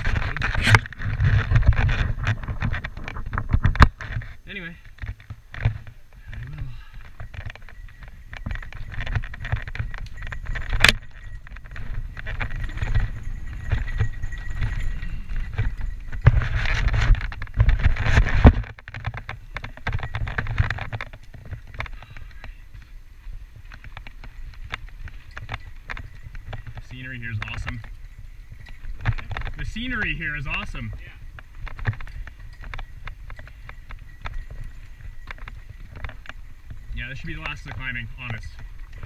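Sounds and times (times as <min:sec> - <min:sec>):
bike rattling and clicking: 0:00.0 - 0:39.0
wind buffeting microphone: 0:00.0 - 0:39.0.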